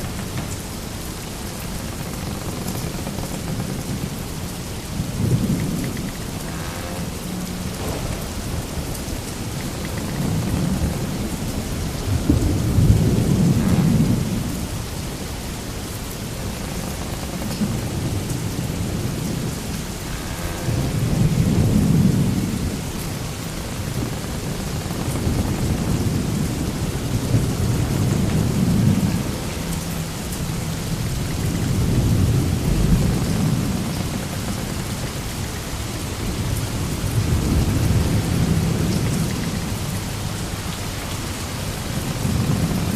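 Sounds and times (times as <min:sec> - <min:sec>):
rushing rain-like noise: 0:00.0 - 0:42.9.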